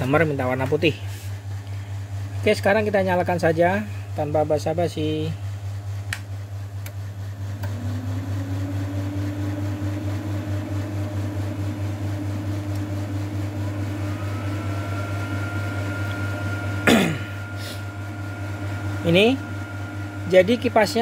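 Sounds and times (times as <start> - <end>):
fans whining up in pitch: 0.0 - 21.0
power supply and fan hum: 0.0 - 21.0.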